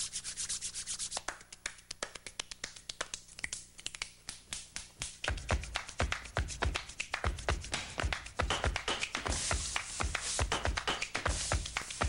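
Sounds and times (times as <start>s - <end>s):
finger snapping and hand clicks: 1.2s - 12.0s.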